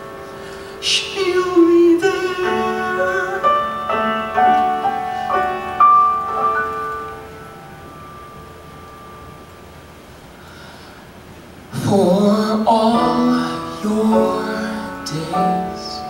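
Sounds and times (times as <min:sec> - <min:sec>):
slow piano ballad: 0:00.0 - 0:16.0.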